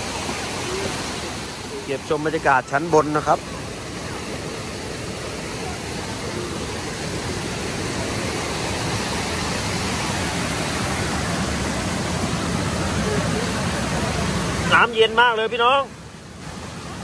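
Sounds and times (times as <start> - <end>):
water rushing over cascades: 0.0 - 17.0.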